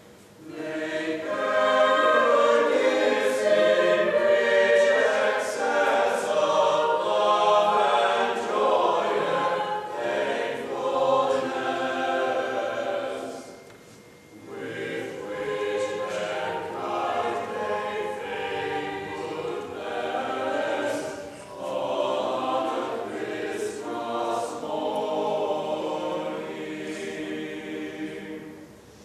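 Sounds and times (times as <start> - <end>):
chamber choir singing: 0.4 - 29.0.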